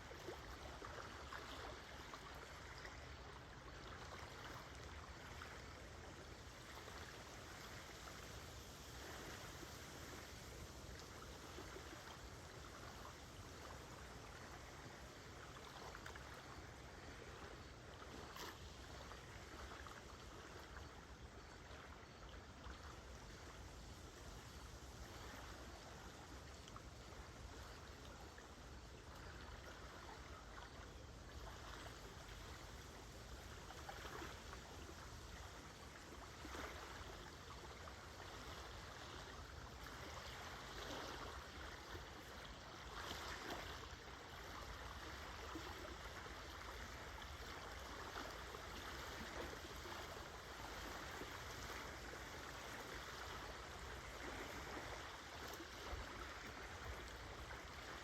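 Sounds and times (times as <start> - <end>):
small waves lapping on shore: 0.0 - 58.0.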